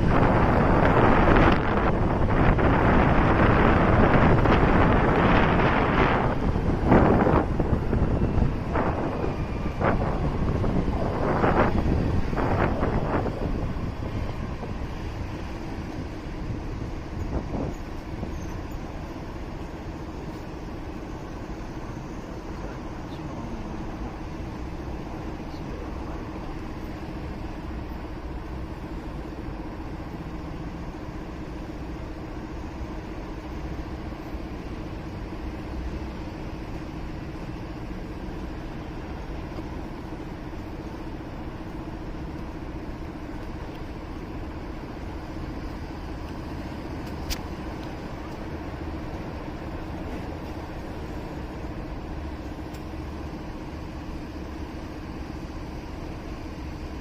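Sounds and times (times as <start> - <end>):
city traffic: 0.0 - 57.0.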